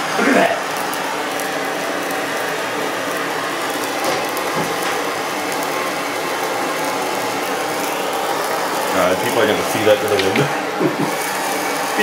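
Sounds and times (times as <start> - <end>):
electrical arcing crackle: 0.0 - 12.0
microwave oven humming: 0.0 - 12.0.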